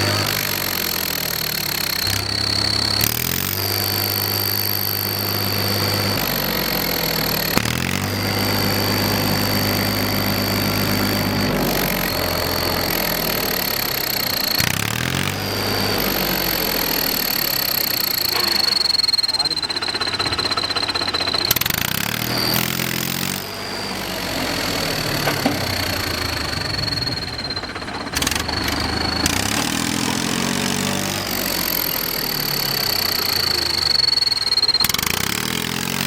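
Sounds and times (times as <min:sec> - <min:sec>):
engine revving: 0:00.0 - 0:36.0
high-pitched turbo whistle: 0:00.0 - 0:36.0
tractor engine running: 0:00.0 - 0:36.0.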